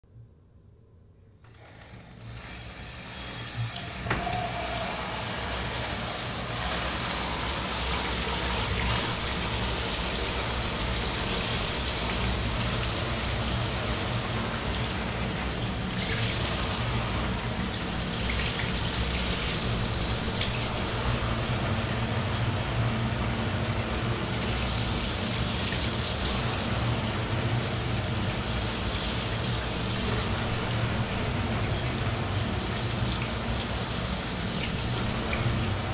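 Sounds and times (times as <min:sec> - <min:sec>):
shower water spraying: 0:01.5 - 0:35.9.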